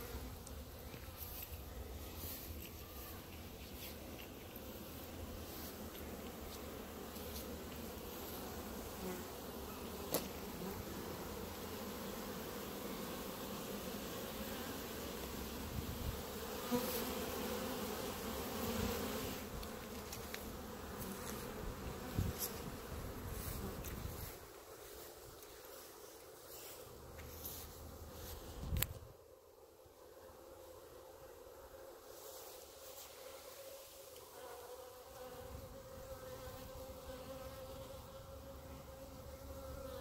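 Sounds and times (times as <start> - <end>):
bees buzzing: 0.0 - 40.0.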